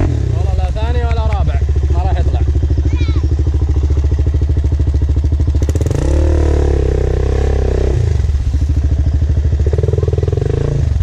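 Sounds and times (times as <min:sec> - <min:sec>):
quad bike engine idling and revving: 0:00.0 - 0:11.0.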